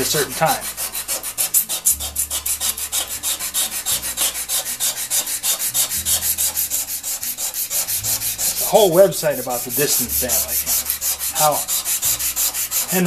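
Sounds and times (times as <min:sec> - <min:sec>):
sandpaper scratching metal blade: 0:00.0 - 0:13.0.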